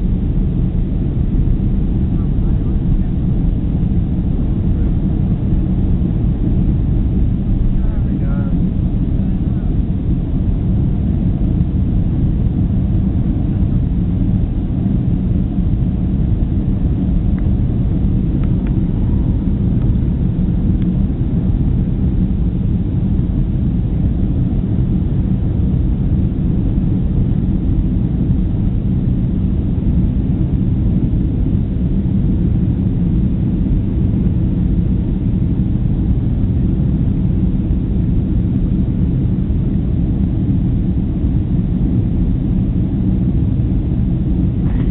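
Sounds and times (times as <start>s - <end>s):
jet engines rumbling: 0.0s - 44.9s.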